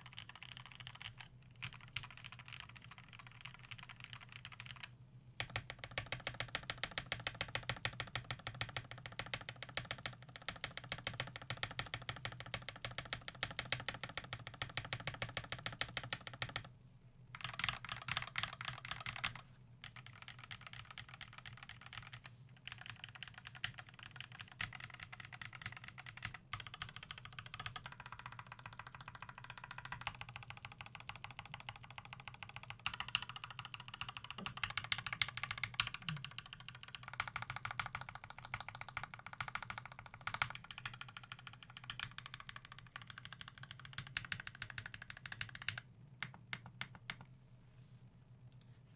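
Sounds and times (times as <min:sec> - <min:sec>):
fast typing on mechanical keyboard: 0:00.0 - 0:16.7, 0:17.3 - 0:47.3.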